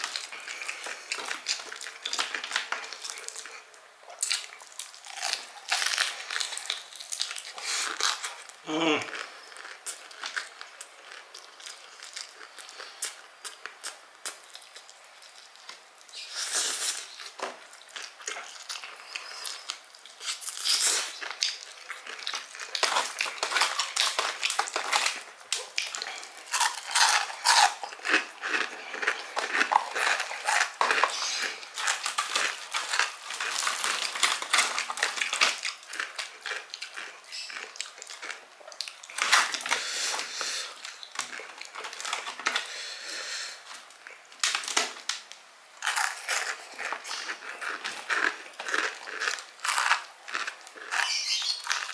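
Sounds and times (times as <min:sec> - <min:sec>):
crunchy chewing of fried chicken: 0:00.0 - 0:51.9.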